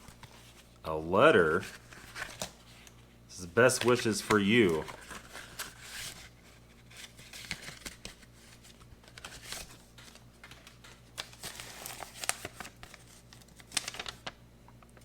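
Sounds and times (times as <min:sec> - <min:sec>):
paper rustling and crackling: 0:01.4 - 0:02.9, 0:03.6 - 0:15.0.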